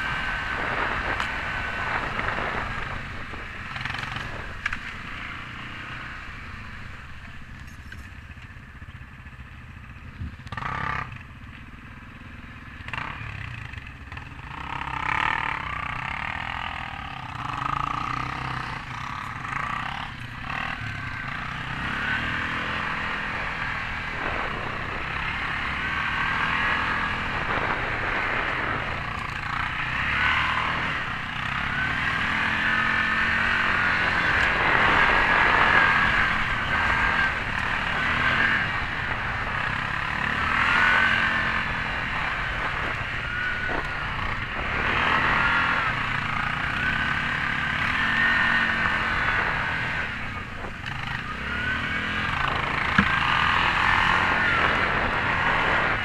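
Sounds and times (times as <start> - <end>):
quad engine running under load: 0.0 - 56.0.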